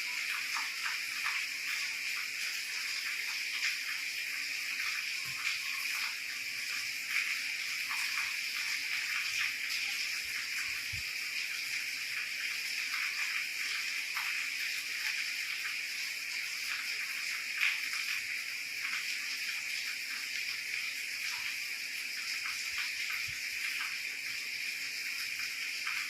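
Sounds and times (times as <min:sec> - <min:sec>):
steady rain falling: 0:00.0 - 0:26.0
water drips ticking: 0:00.0 - 0:26.0.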